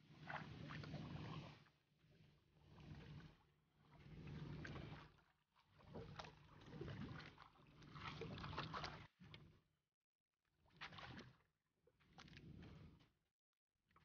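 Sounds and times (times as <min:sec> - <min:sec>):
faint water sloshing around boat: 0:00.0 - 0:09.8, 0:10.6 - 0:13.2.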